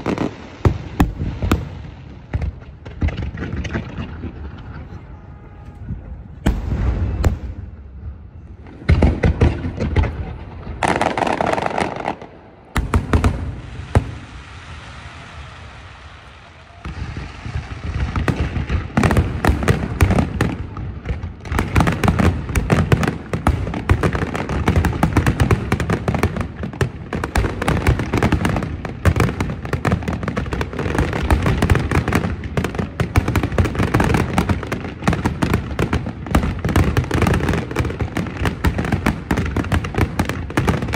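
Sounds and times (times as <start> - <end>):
fireworks exploding: 0.0 - 40.9.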